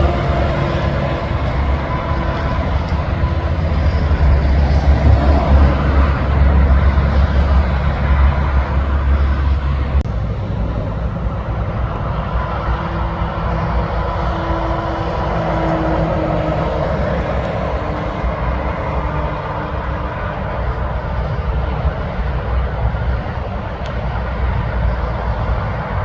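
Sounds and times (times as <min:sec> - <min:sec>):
heavy truck driving past: 0:00.0 - 0:26.0.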